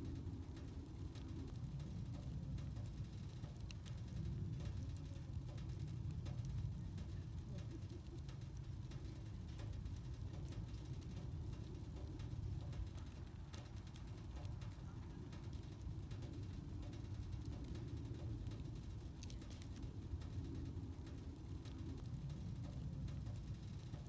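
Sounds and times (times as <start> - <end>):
campfire crackles and pops: 0.0 - 24.0
fire low rumble: 0.0 - 24.0.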